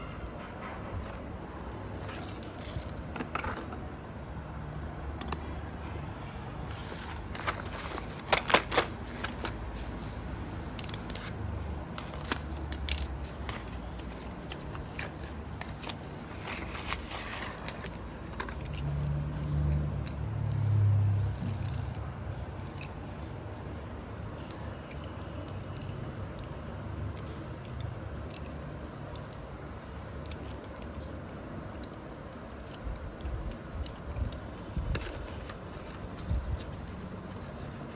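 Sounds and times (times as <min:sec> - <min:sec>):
pencils and packaging handled: 0:00.0 - 0:37.9.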